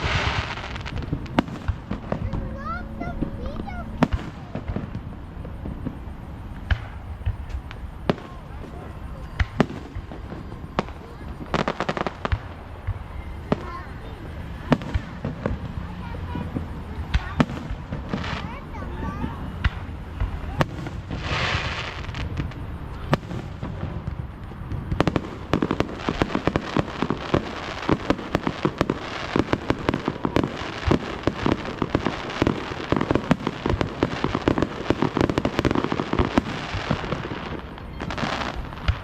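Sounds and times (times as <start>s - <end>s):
fireworks hissing burst: 0.0s - 39.0s
fireworks popping and banging: 0.0s - 39.0s.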